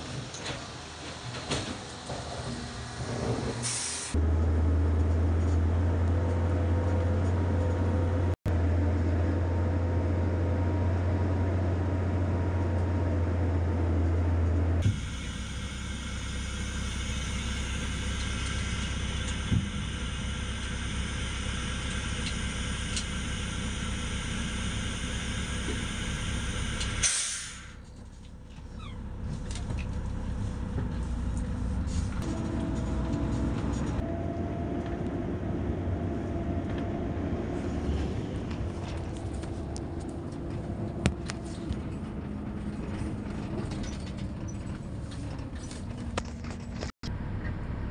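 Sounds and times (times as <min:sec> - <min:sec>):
truck engine rumble from cab: 0:00.0 - 0:47.9.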